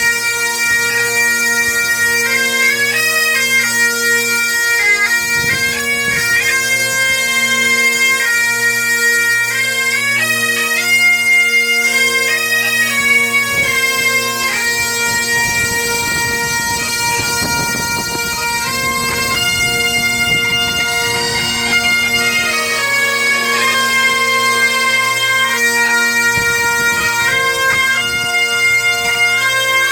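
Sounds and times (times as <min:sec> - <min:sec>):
bagpipe drones and melody: 0:00.0 - 0:29.9.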